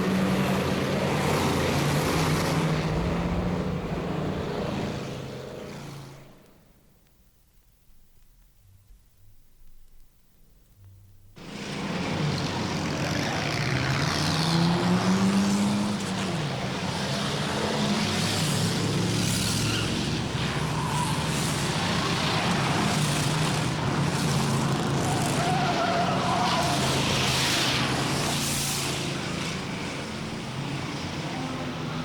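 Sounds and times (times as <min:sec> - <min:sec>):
race car engines: 0:00.0 - 0:06.6, 0:11.4 - 0:32.0.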